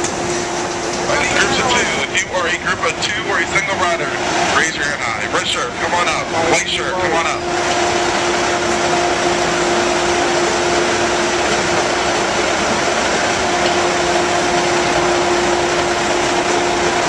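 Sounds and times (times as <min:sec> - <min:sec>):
constant low hum: 0:00.0 - 0:17.0
machinery whirring: 0:00.0 - 0:17.0.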